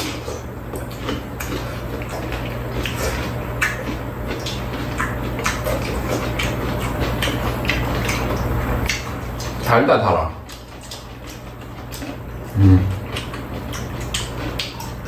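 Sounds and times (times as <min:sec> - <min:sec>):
lip smacks: 0:00.0 - 0:09.7, 0:10.4 - 0:15.0
low steady hum: 0:00.0 - 0:15.0
people chewing crisp melon: 0:00.0 - 0:15.0.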